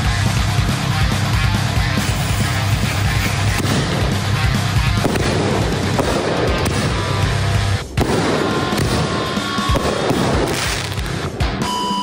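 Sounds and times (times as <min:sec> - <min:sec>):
background music: 0:00.0 - 0:12.0
firework shells bursting and crackling: 0:01.9 - 0:11.6.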